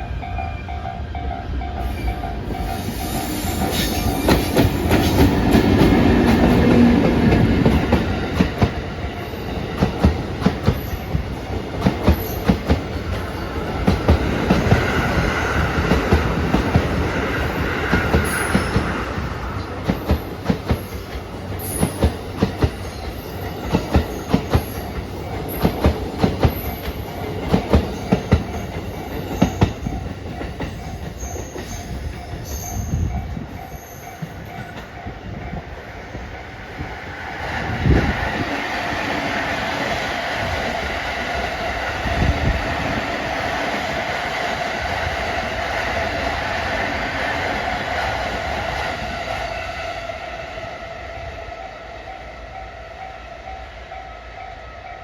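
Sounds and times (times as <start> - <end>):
electric locomotive passing: 0.0 - 55.0.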